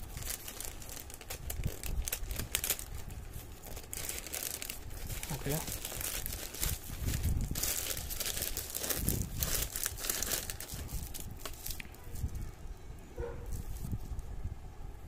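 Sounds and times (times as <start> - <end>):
plastic mailer and bubble wrap crinkling: 0.0 - 12.5, 13.4 - 14.2.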